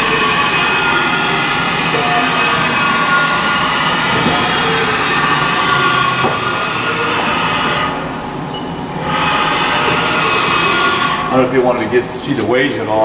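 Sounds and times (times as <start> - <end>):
machine axis drives whining: 0.0 - 13.0.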